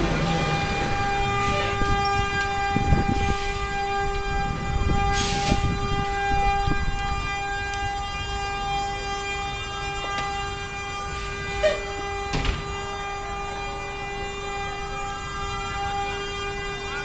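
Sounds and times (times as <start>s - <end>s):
lower horn note: 0.0s - 17.0s
steady horn-like tone: 0.3s - 17.0s.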